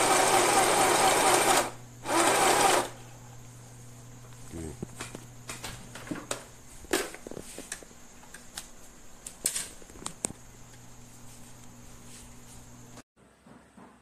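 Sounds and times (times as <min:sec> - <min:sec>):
steady low hum: 0:01.6 - 0:13.0.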